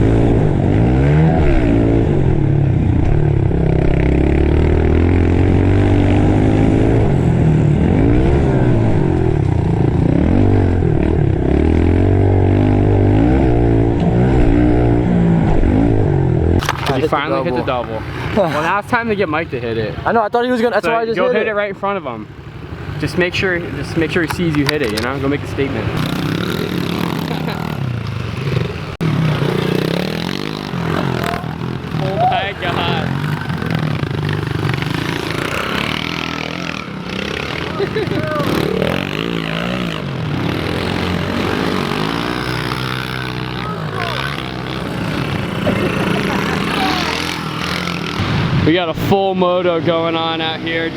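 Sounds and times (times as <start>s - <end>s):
pit bike engine revving: 0.0s - 20.2s, 21.8s - 48.8s.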